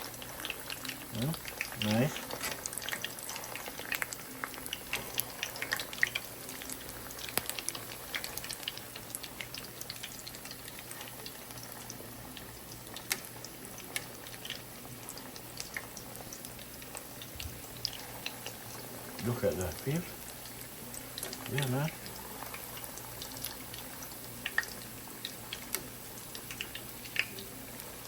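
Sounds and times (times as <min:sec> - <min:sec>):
food bubbling in a pot: 0:00.0 - 0:28.0.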